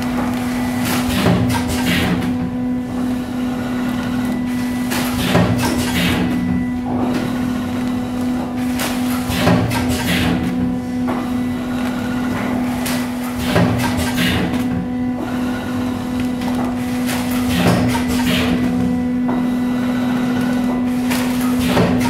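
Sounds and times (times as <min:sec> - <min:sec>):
electric machine hum: 0:00.0 - 0:22.0.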